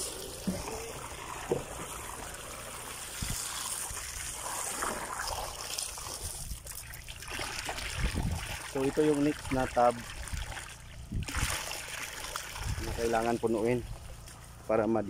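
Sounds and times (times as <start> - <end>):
water pouring into plastic drum: 0.0 - 14.4.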